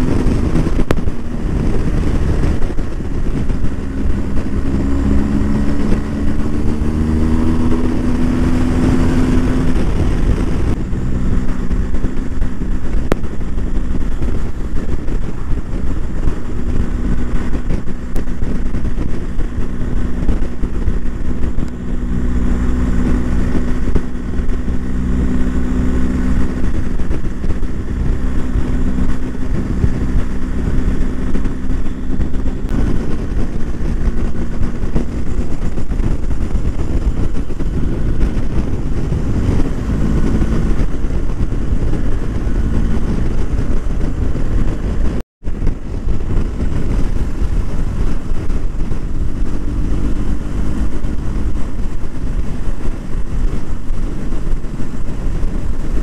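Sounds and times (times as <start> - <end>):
heavy low rumble: 0.0 - 56.0
motorcycle engine running: 0.0 - 56.0.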